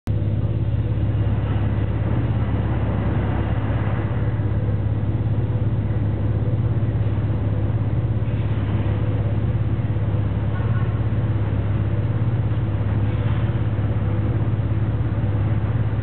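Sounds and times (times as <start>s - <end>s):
elevator hum and rumble: 0.0s - 16.0s.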